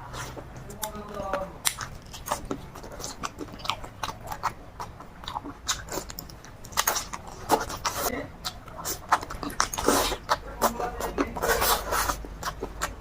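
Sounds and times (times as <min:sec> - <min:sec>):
person chewing and crunching food: 0:00.0 - 0:13.0.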